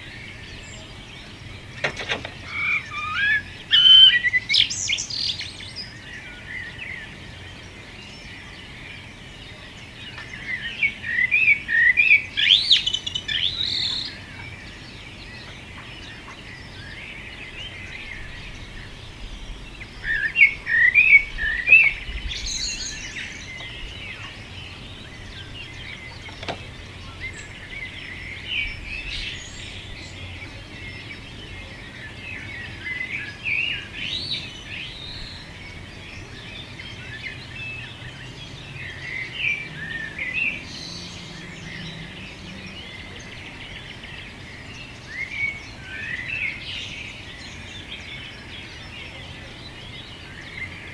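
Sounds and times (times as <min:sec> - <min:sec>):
faint background bird chorus: 0:00.0 - 0:50.9
songbird chirping song phrases: 0:00.0 - 0:50.9.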